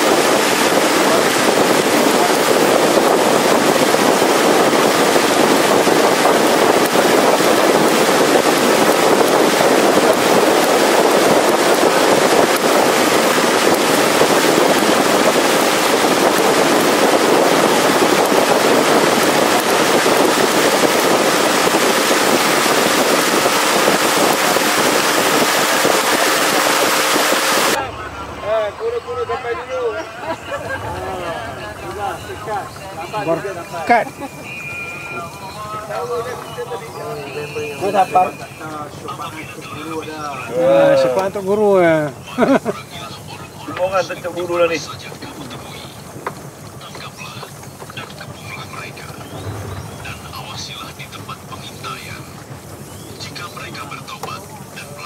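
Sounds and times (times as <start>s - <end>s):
wind buffeting microphone: 0.0s - 27.9s, 29.4s - 55.0s
boat motor humming: 0.0s - 55.0s
water rushing past hull: 0.0s - 55.0s.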